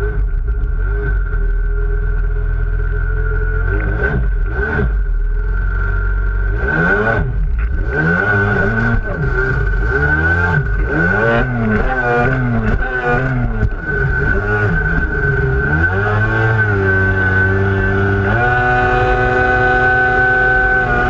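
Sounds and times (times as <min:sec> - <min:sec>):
watercraft engine revving: 0:00.0 - 0:21.0.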